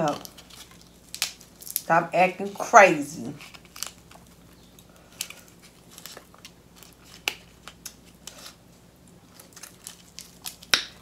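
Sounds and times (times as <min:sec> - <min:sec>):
crab meat clicking and crackling: 0:00.0 - 0:01.9, 0:03.4 - 0:11.0.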